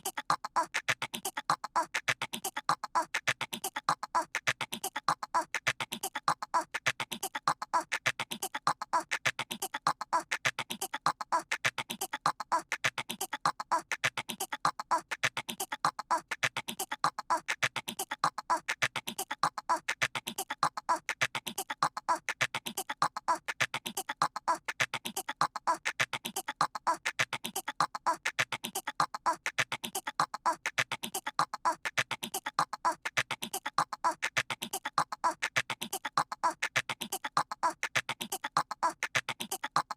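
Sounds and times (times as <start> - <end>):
cartoon voice chattering clicks: 0.0 - 39.9.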